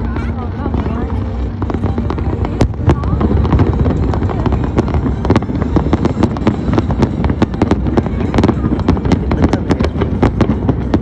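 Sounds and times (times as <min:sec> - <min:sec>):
continuous low rumble: 0:00.0 - 0:11.0
fireworks bangs and crackles: 0:00.0 - 0:11.0.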